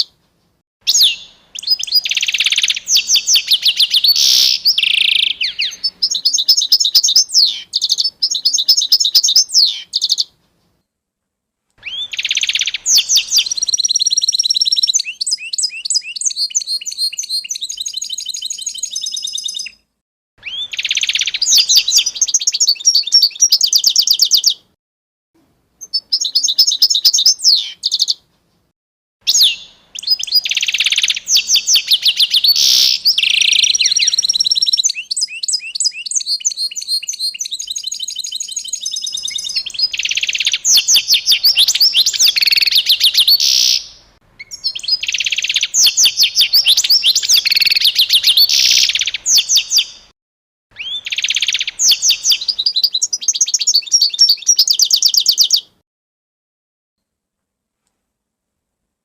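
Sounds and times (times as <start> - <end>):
songbirds chirping and trilling: 0.9 - 10.9, 11.8 - 24.8, 25.8 - 28.6, 29.3 - 50.1, 50.7 - 55.8.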